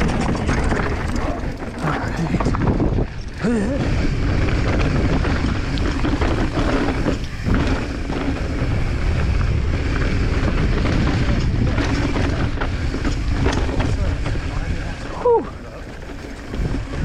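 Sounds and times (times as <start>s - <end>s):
bike rumbling and rattling: 0.0s - 17.0s
wind over microphone: 0.0s - 17.0s.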